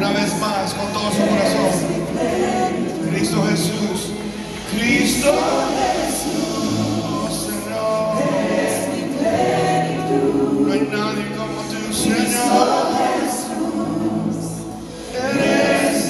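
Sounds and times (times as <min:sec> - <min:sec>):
group singing worship song: 0:00.0 - 0:16.0
keyboard accompaniment: 0:00.0 - 0:16.0.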